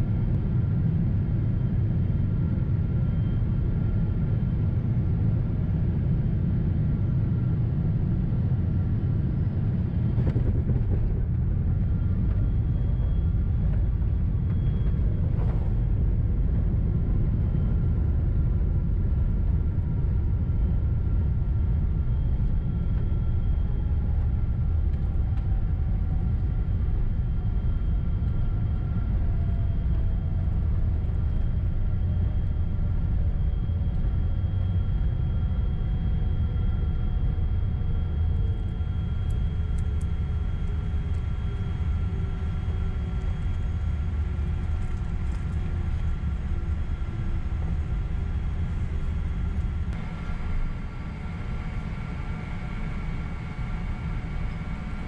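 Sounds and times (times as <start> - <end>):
airliner engines rumbling in cabin: 0.0 - 55.0.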